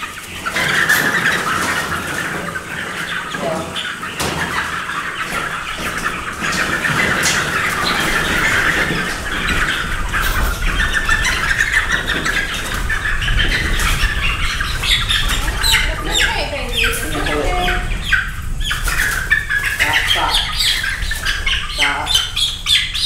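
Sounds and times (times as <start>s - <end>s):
chicks cheeping and squawking: 0.0s - 23.0s.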